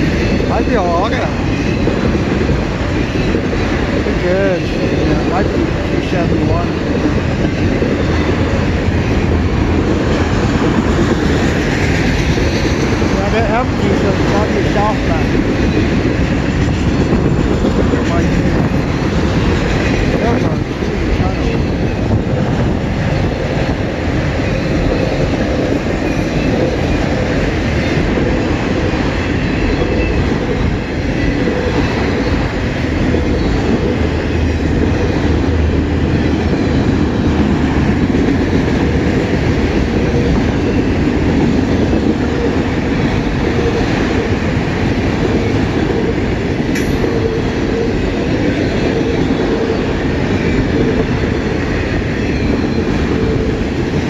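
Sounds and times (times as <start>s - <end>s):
freight train cars rolling on rails: 0.0s - 54.0s.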